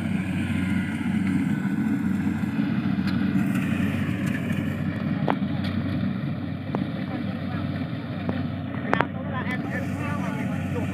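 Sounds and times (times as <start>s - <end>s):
small engine running steadily: 0.0s - 10.9s.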